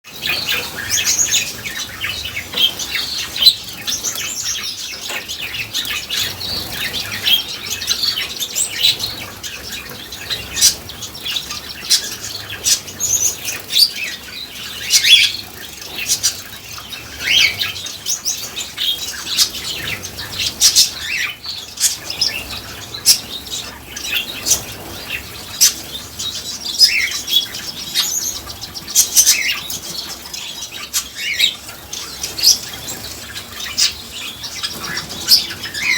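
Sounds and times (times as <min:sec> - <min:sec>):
finches chirping: 0:00.1 - 0:35.9.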